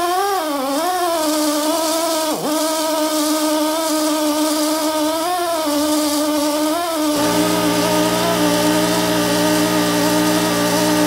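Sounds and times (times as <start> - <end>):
hand drill motor whine: 0.0 - 11.0.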